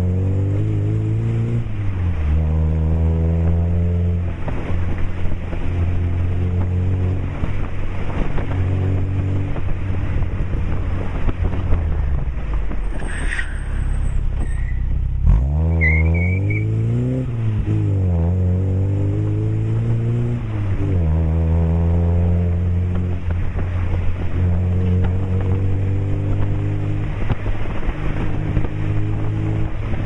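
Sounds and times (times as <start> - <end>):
car engine drone through exhaust: 0.0 - 30.0.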